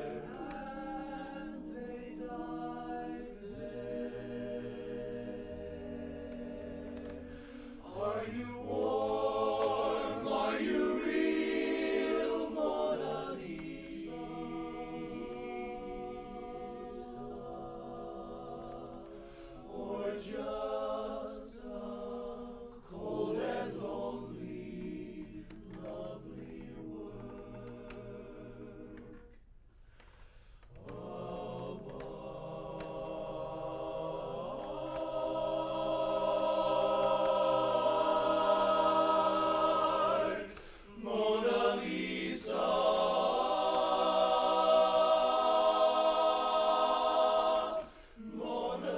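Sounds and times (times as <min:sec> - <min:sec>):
men's chorus singing a cappella: 0:00.0 - 0:29.4, 0:30.7 - 0:48.9.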